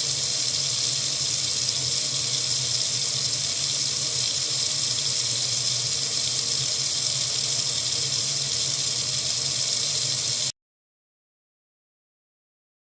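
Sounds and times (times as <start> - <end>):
water running from faucet: 0.0 - 10.5.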